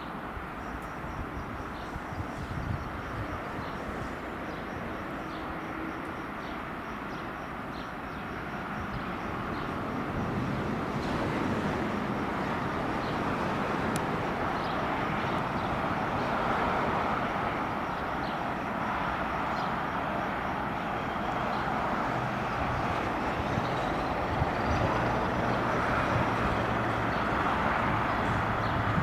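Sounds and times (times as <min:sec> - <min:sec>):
diesel locomotive engine: 0:00.0 - 0:29.0.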